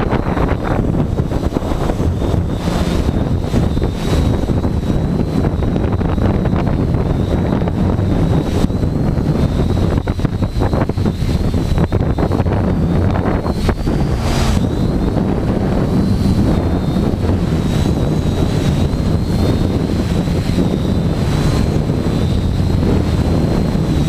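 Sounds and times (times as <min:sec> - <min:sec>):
drone motors high whine: 0:00.0 - 0:24.0
wind buffeting microphone: 0:00.0 - 0:24.0.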